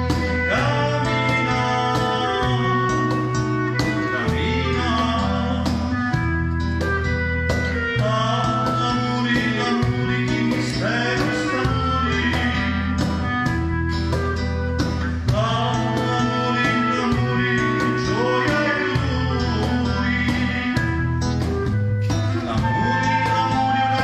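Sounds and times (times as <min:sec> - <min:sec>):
wind instrument: 0:00.0 - 0:24.0
man singing into a microphone: 0:00.1 - 0:06.6, 0:07.6 - 0:13.3, 0:15.1 - 0:24.0.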